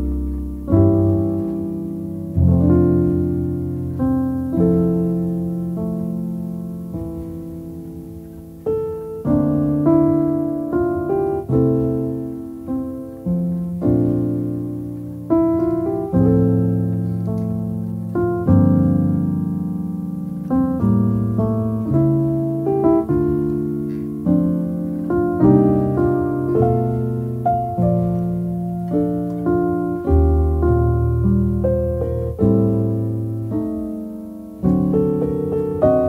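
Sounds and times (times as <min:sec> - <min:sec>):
calm solo piano: 0:00.0 - 0:36.0.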